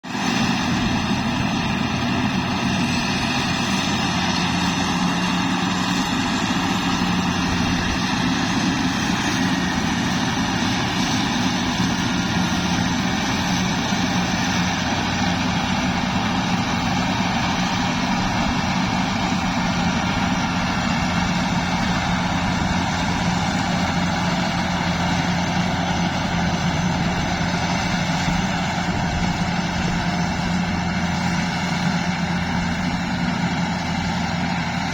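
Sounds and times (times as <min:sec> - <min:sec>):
harvester engine droning: 0:00.0 - 0:34.9.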